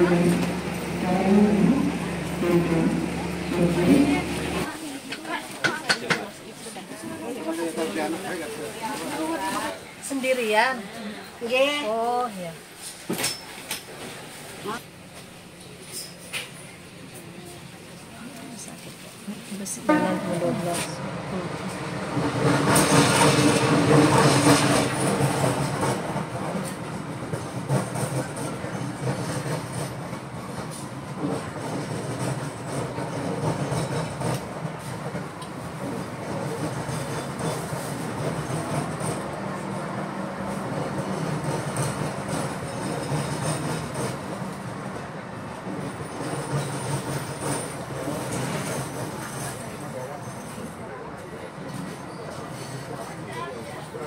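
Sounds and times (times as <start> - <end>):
train running on rails: 0.0 - 54.0.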